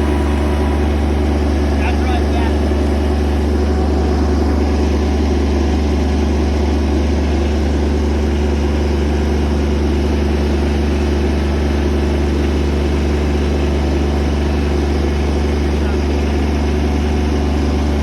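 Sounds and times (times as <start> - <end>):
machine engine running loudly: 0.0 - 18.0.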